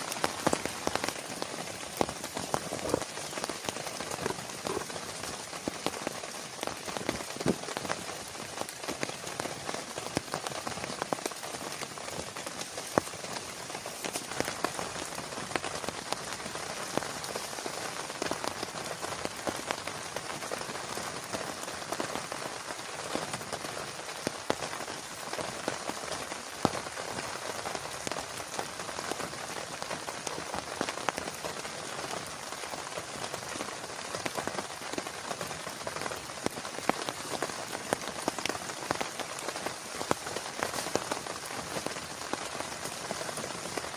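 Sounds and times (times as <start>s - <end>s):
heavy rain falling: 0.0s - 43.9s
raindrops striking a surface: 0.0s - 43.9s.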